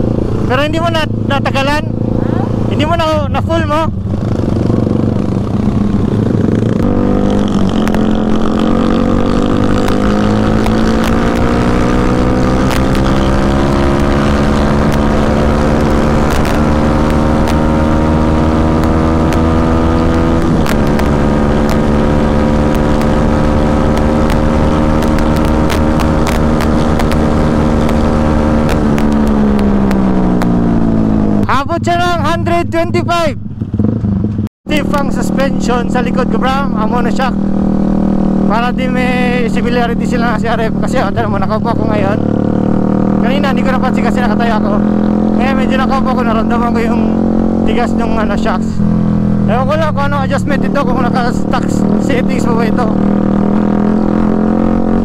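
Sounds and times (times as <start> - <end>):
motorcycle engine at full throttle: 0.0 - 55.0.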